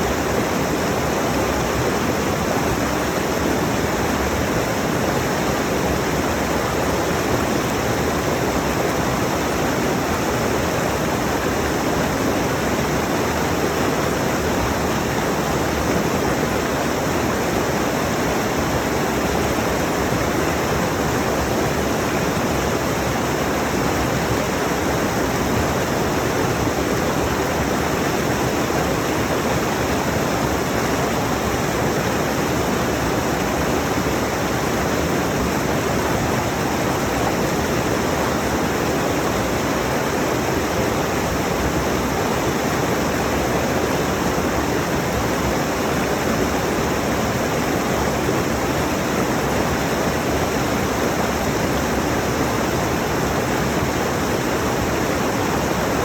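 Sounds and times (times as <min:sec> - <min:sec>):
rushing mountain stream: 0:00.0 - 0:56.0.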